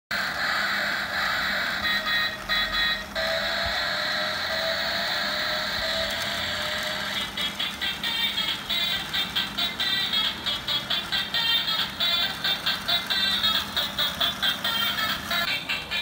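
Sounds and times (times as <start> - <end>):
rapid electronic beeping: 0.2 - 16.0
stepping electronic notes: 0.2 - 16.0.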